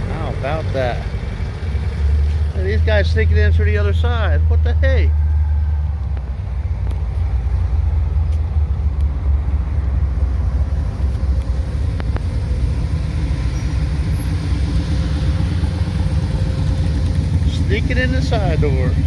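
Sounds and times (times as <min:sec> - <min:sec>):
car engines rumbling at low speed: 0:00.0 - 0:19.0.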